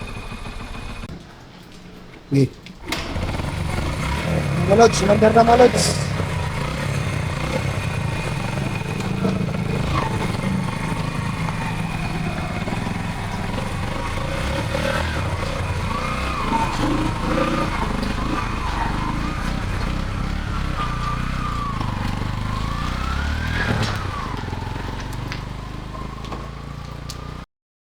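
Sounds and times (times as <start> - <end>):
motorcycle engine idling: 0.0 - 27.4.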